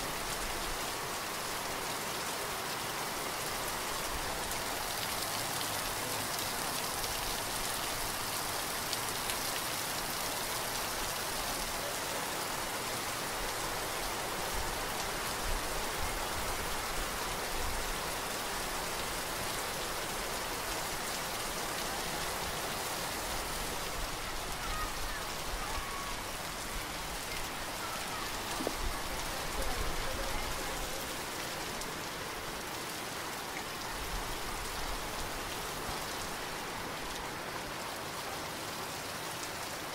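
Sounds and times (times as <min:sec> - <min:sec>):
heavy rain splashing on ground: 0:00.0 - 0:39.9.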